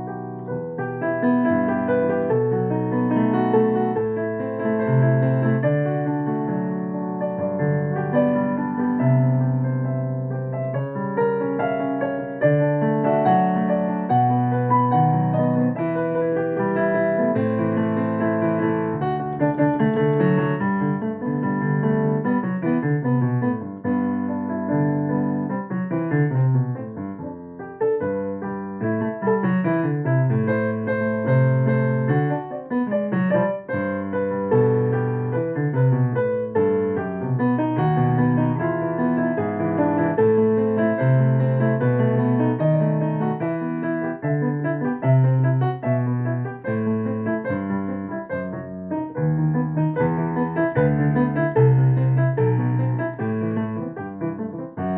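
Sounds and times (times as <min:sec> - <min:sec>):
solo piano playing: 0:00.0 - 0:54.9.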